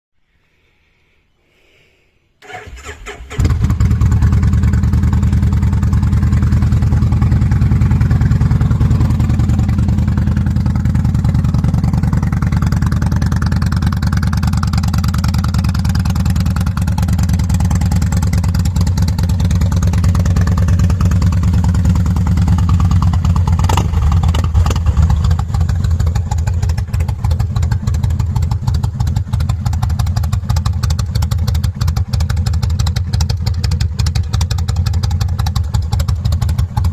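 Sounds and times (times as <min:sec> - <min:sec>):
motorcycle engine idling: 0:03.3 - 0:36.9.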